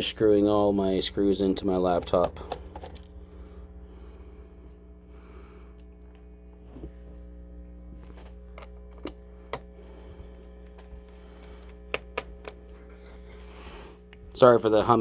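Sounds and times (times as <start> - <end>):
speaker electrical hum: 0.0 - 15.0.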